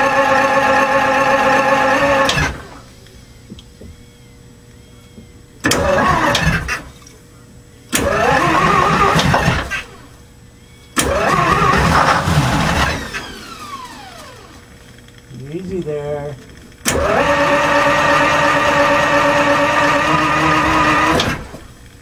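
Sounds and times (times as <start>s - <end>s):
diesel engine cranking: 0.0s - 7.2s, 7.8s - 22.0s
starter whine winding down: 0.0s - 22.0s.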